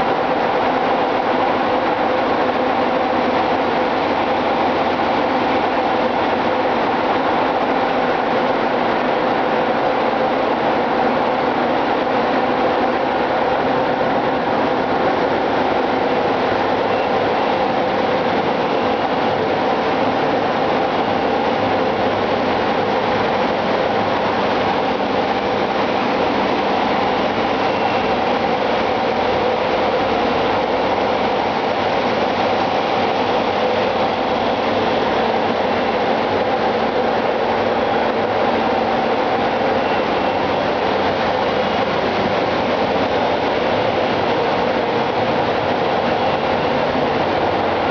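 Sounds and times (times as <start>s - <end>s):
engine-room machinery drone: 0.0s - 47.9s.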